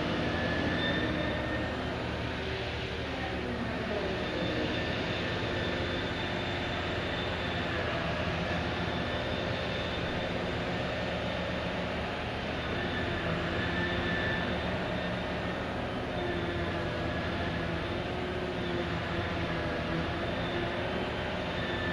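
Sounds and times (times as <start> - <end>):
heavy diesel machinery droning: 0.0 - 21.9.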